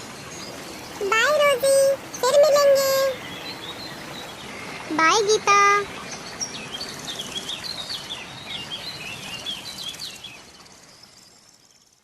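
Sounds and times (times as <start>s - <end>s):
birds chirping: 0.0s - 12.0s
soft outdoor hiss: 0.0s - 12.0s.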